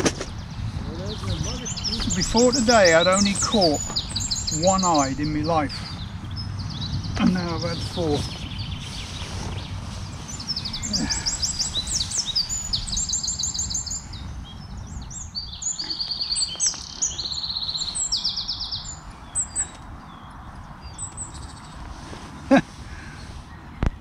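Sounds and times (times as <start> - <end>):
songbirds trilling and chirping: 0.0 - 24.0
steady low rumble: 0.3 - 20.9.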